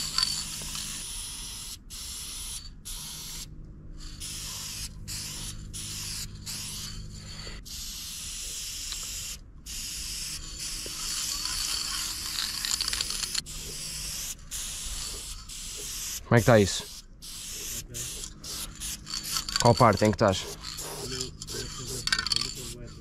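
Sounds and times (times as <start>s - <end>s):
low steady hum: 0.0s - 1.9s, 2.6s - 23.0s
spray paint can hissing: 0.0s - 23.0s.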